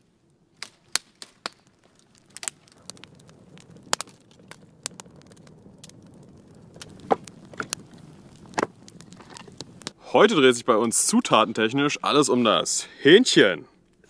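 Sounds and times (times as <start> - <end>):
wood fire crackling and popping: 0.0 - 12.8.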